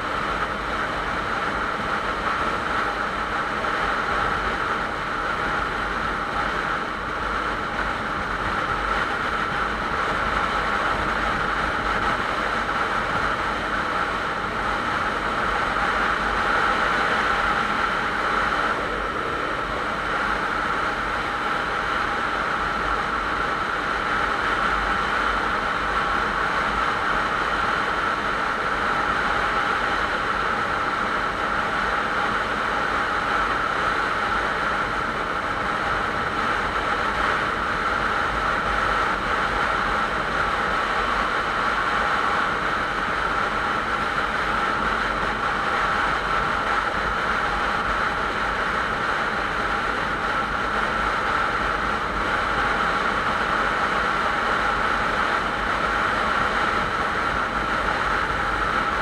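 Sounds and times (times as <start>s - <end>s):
constant whine: 0.0s - 59.0s.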